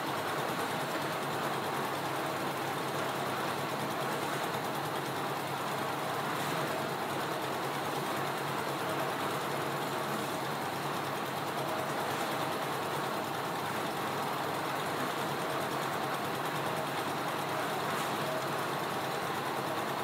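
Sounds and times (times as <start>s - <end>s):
concrete mixer diesel engine: 0.2s - 20.0s.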